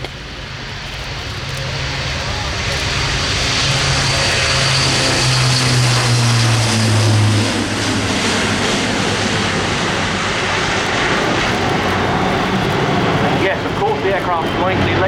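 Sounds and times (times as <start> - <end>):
turboprop aircraft flying past: 0.0 - 15.0.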